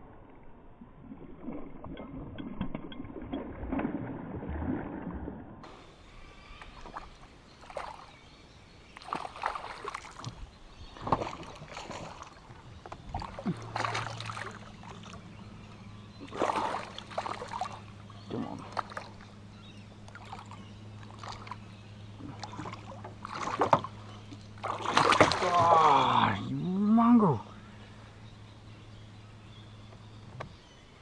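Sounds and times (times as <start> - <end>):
low steady hum: 0.0 - 31.0
water splashing: 0.7 - 5.6, 6.6 - 8.2, 8.8 - 27.4.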